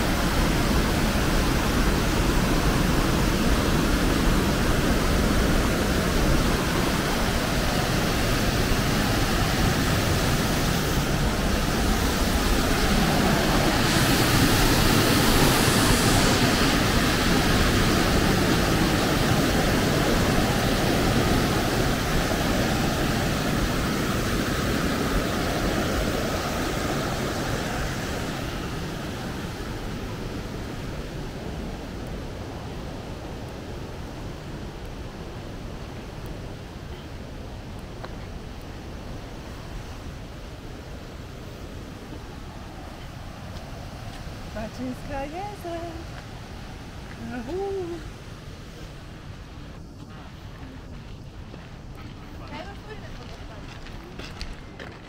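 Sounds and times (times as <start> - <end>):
waterfall rushing: 0.0 - 49.8.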